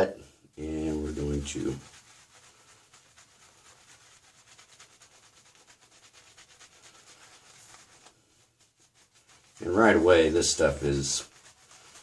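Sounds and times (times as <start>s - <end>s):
shaving brush swishing on face: 0.5s - 12.0s.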